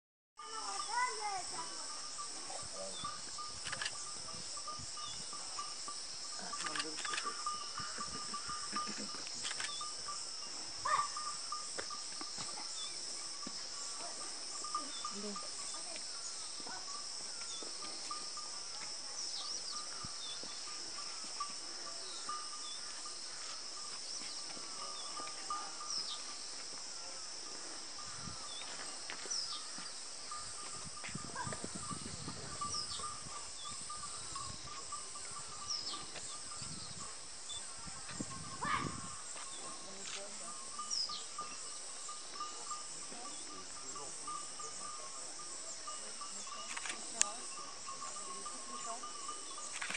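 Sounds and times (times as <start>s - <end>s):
insects chirring: 0.4s - 49.9s.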